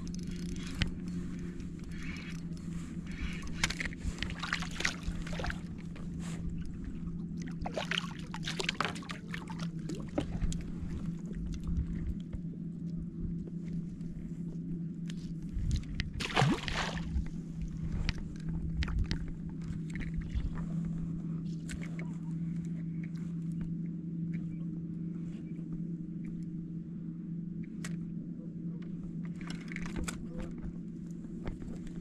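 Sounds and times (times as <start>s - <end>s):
boat motor humming: 0.0s - 32.0s.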